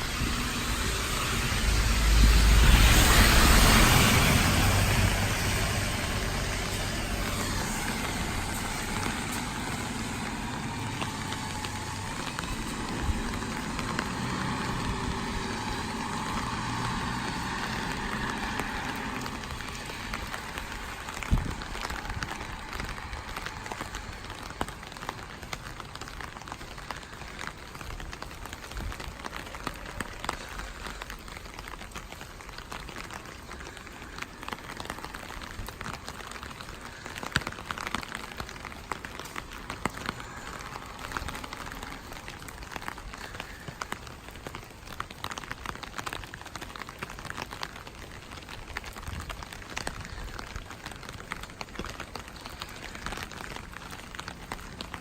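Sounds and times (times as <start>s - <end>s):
sharp rain drop ticks: 0.0s - 55.0s
steady rainfall: 0.0s - 55.0s.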